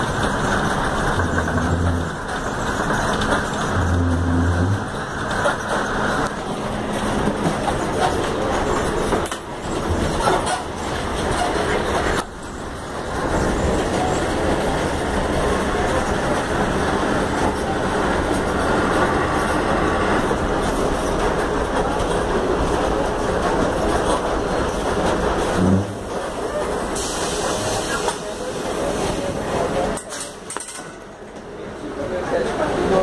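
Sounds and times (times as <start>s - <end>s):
bus engine and road rumble: 0.0s - 33.0s
rattling in bus cabin: 0.0s - 33.0s.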